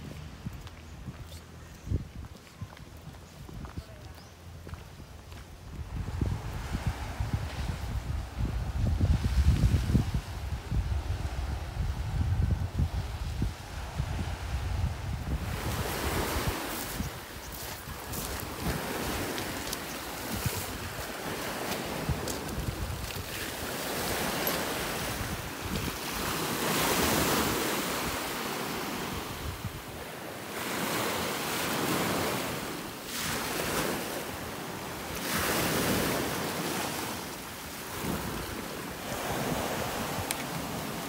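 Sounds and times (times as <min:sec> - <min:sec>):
wind rumbling on microphone: 0:00.0 - 0:41.0
sea waves washing ashore: 0:05.2 - 0:41.0.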